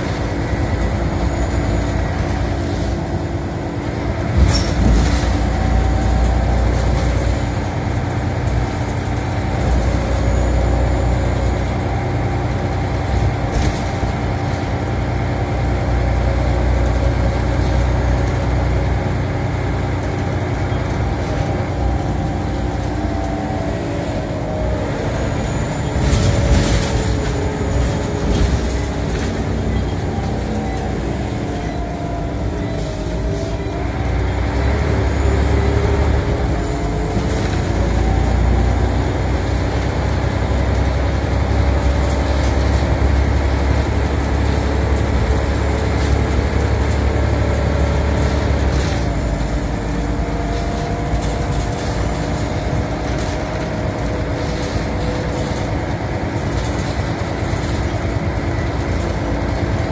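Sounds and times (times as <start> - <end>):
bus engine drone and whine: 0.0 - 59.9.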